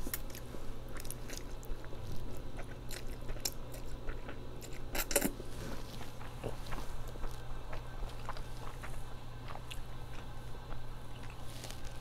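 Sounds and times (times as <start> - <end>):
person chewing and slurping noodles: 0.0 - 12.0.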